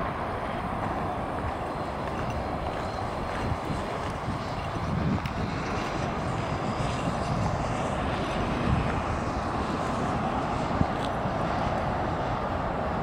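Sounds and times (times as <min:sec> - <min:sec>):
outdoor rumble and hiss: 0:00.0 - 0:13.0.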